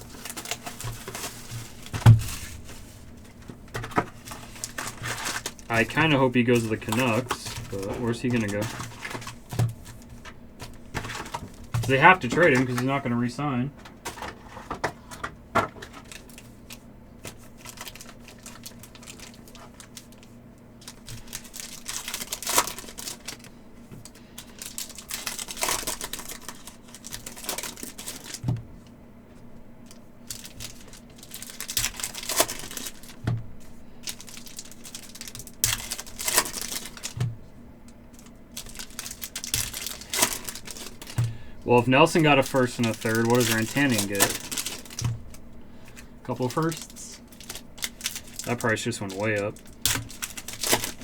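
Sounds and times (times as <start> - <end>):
foil wrappers crinkling and tearing: 0.0 - 28.6, 29.8 - 51.0.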